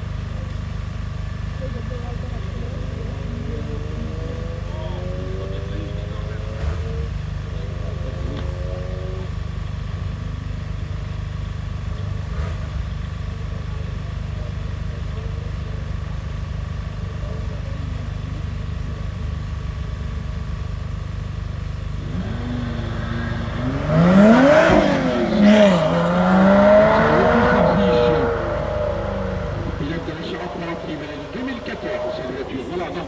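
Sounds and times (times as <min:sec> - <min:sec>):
sports car engine idling: 0:00.0 - 0:33.0.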